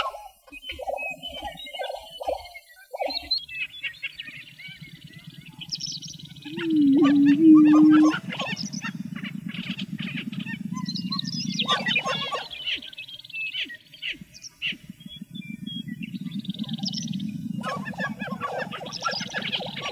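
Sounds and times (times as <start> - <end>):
birds cackling and chirping: 0.0 - 19.9
low continuous pulsing: 0.5 - 19.9.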